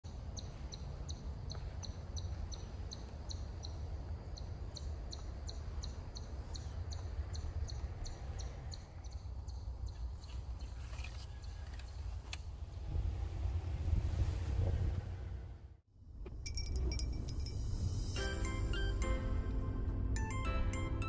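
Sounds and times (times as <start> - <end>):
constant low rumble: 0.1 - 21.0.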